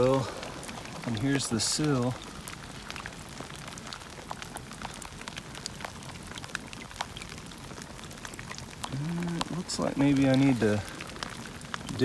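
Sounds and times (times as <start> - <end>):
rain falling into puddles: 0.0 - 12.0.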